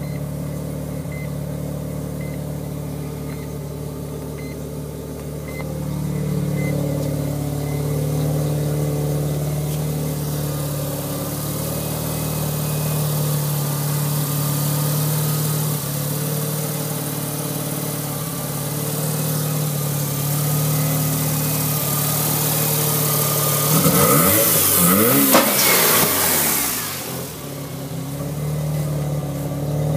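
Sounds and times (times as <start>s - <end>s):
rotary engine idling and revving: 0.0s - 29.9s.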